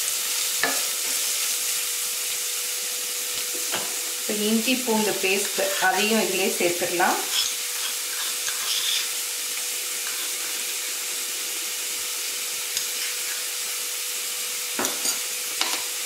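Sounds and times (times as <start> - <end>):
onions sizzling in a pan: 0.0 - 16.0.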